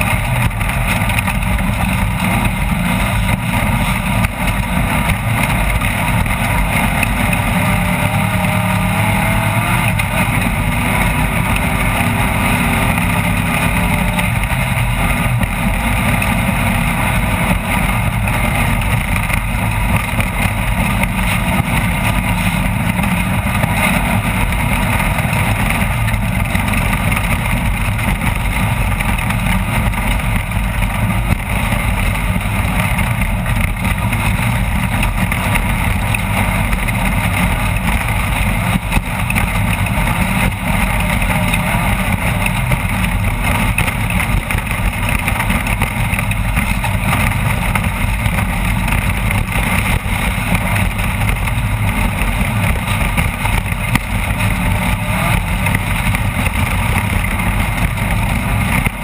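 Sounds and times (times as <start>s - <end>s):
loud engine rough rumble: 0.0s - 59.0s.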